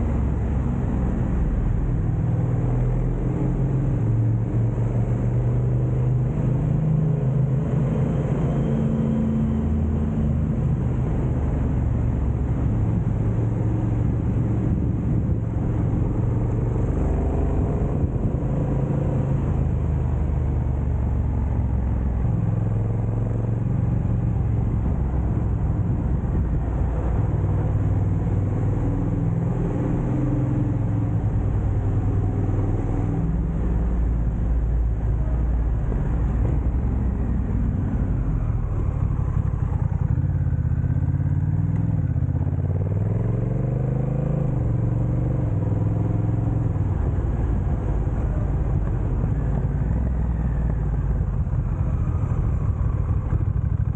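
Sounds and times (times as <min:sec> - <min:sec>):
motorcycle engine revving: 0:02.0 - 0:53.9.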